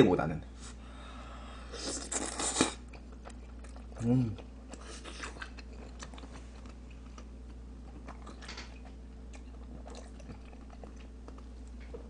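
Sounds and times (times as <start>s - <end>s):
person chewing: 1.7s - 12.0s.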